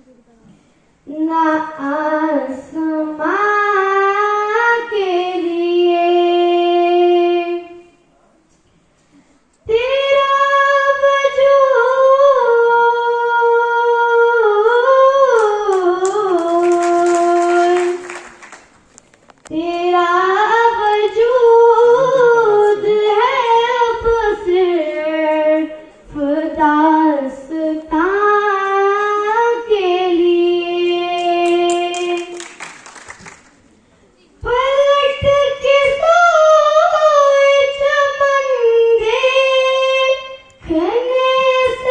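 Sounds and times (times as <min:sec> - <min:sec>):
woman singing through loudspeaker: 0:01.0 - 0:08.0, 0:09.6 - 0:18.6, 0:19.4 - 0:32.9, 0:34.2 - 0:41.9.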